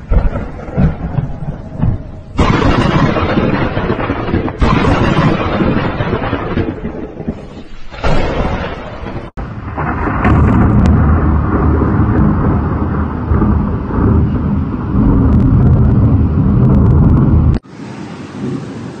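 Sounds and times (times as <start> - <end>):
thunder rumbling: 0.0 - 19.0.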